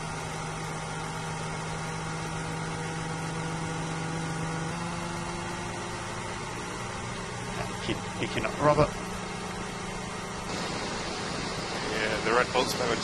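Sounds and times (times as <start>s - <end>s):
racing car engine hum over radio: 0.0s - 13.0s.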